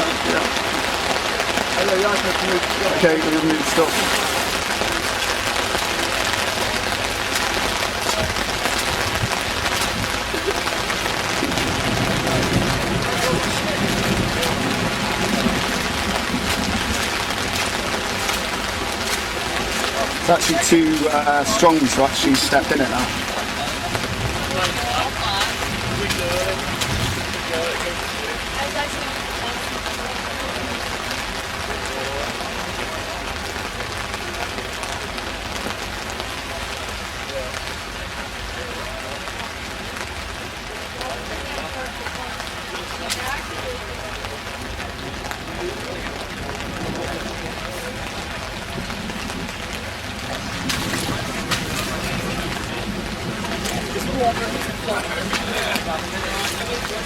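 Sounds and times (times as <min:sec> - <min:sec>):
floodwater flowing fast: 0:00.0 - 0:57.0
heavy rain hissing: 0:00.0 - 0:57.0
rain drop hits: 0:00.0 - 0:57.0.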